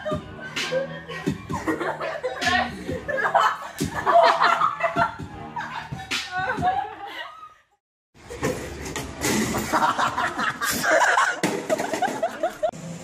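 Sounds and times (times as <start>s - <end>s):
people laughing: 0.0s - 7.6s, 9.6s - 12.8s.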